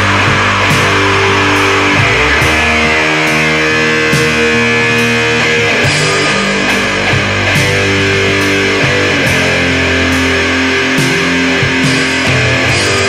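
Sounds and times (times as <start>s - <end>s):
heavy metal guitars and bass: 0.0s - 13.0s
sharp struck accent: 0.0s - 13.0s.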